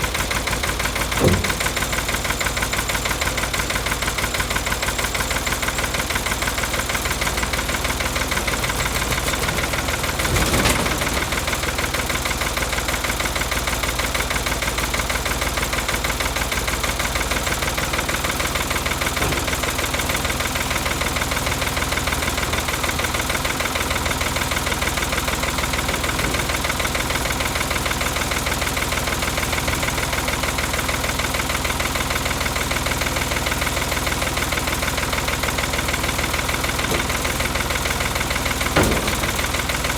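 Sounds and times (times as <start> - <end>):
backhoe engine idling: 0.0 - 39.9.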